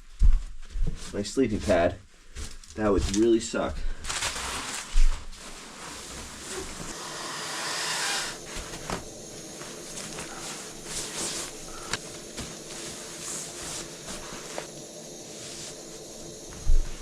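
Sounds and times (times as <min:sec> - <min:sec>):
rustling of sleeping gear: 0:00.0 - 0:17.0.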